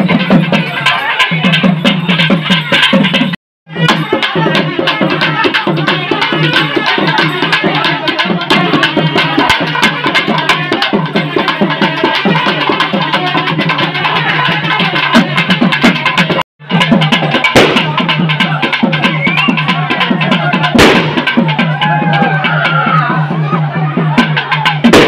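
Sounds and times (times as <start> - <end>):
fast dense drumming: 0.0 - 25.0.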